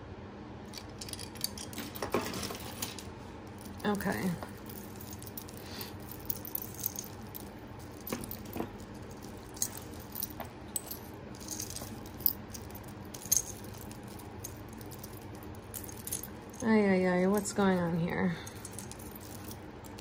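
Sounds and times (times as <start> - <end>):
jewelry clinking and rattling: 0.7 - 20.0.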